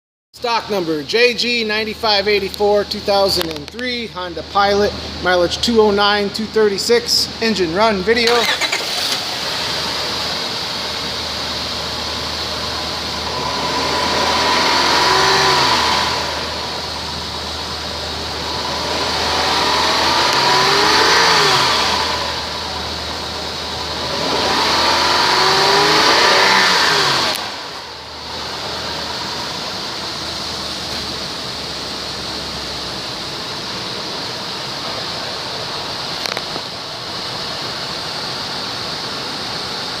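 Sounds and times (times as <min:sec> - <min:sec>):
car engine idling and revving: 0:07.3 - 0:40.0.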